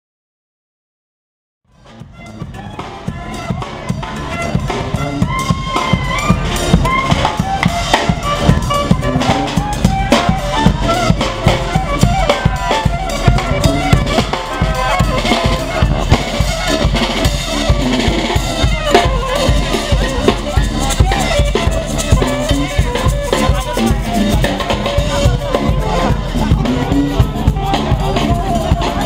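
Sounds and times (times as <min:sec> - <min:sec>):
bass drum and snare beat: 0:01.7 - 0:29.0
saxophones and sousaphone playing: 0:01.8 - 0:29.0.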